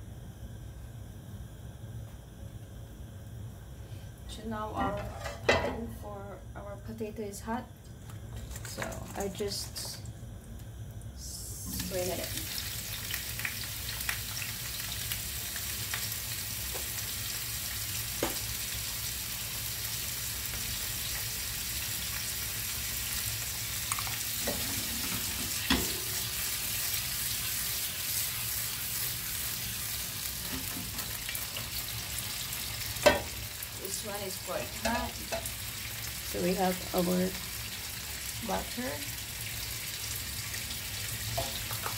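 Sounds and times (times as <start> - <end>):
potatoes sizzling in oil: 8.2 - 41.9.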